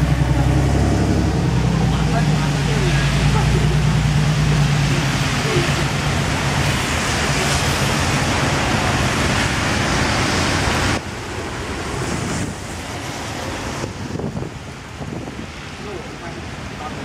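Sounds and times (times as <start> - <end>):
cars passing on wet road: 0.0 - 17.0.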